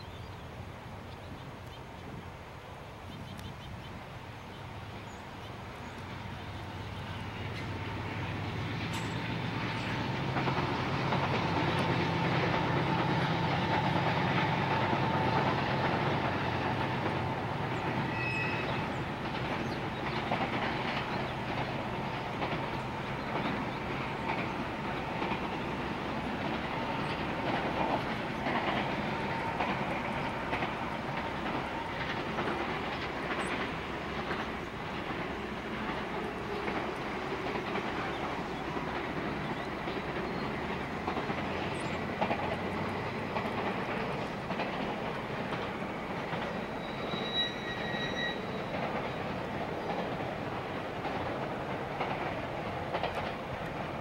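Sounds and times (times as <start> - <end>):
diesel locomotive drone: 0.0 - 54.0
train wheels clicking over rail joints: 5.3 - 54.0.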